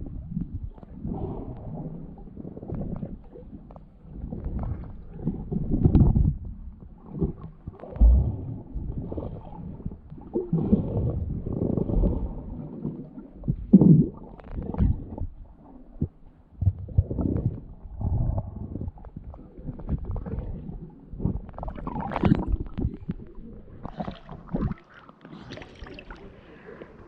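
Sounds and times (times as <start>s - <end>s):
muffled underwater sloshing: 0.0s - 27.0s.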